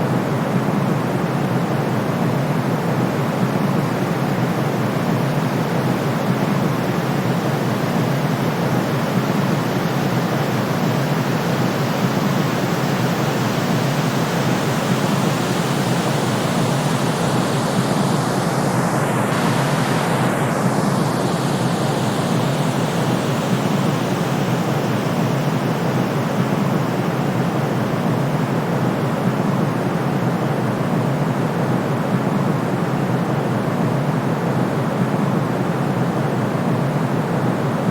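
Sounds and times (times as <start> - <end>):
white noise hiss: 0.8 - 37.9.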